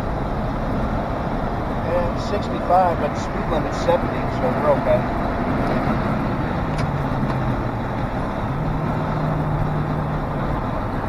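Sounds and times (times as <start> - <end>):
car engine at highway speed: 0.0 - 11.0
wind and road noise: 0.0 - 11.0.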